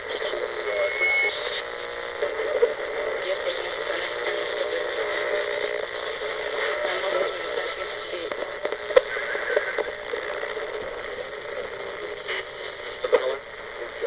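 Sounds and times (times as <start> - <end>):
radio static hissing: 0.0 - 14.0.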